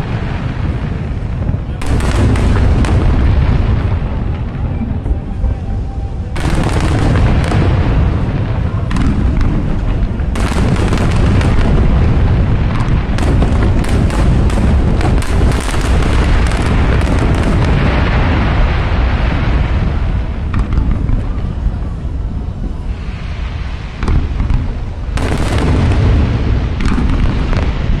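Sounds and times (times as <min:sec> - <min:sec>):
fireworks booming and crackling: 0:00.0 - 0:28.0.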